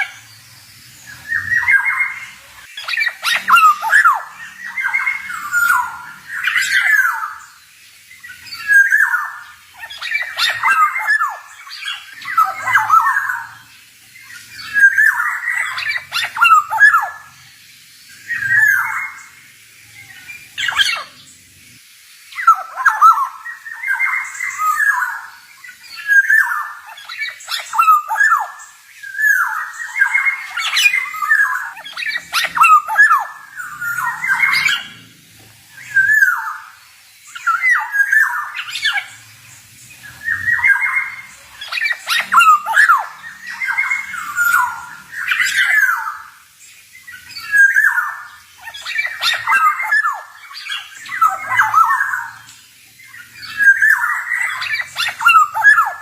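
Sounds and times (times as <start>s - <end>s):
oriole singing whistled notes: 0.0s - 21.4s, 22.2s - 35.1s, 35.7s - 56.0s.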